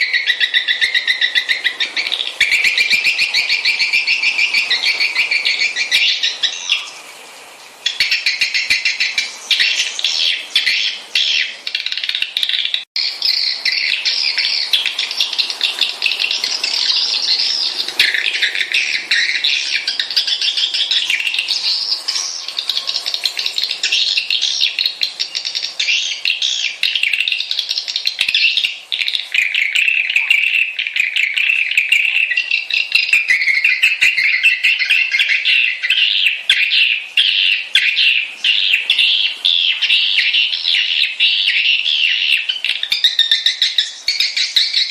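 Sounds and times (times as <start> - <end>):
swiftlets twittering and chirping: 0.0 - 44.9.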